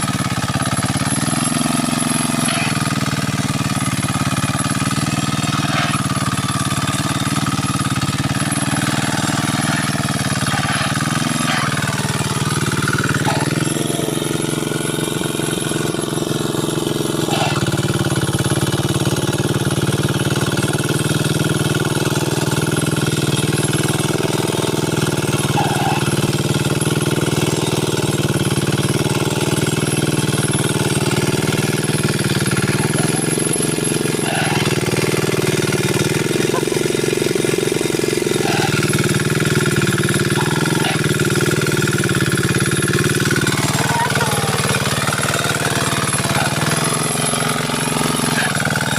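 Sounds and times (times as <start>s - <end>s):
diesel engine chugging: 0.0s - 48.9s.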